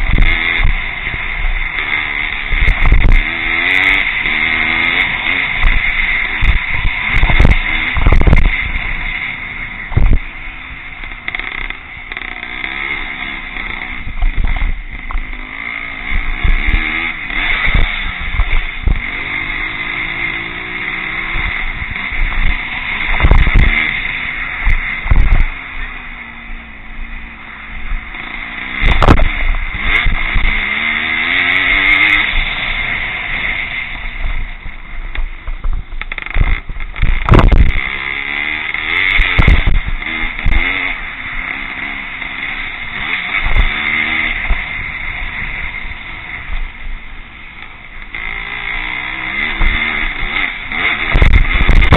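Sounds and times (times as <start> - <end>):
motocross motorcycles revving: 0.0 - 51.9.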